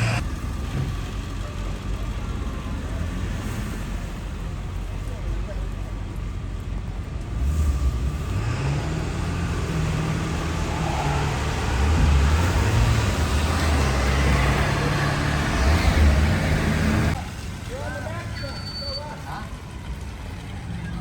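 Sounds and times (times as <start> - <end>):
vehicle engine running: 0.0 - 18.3
road noise: 0.0 - 21.0.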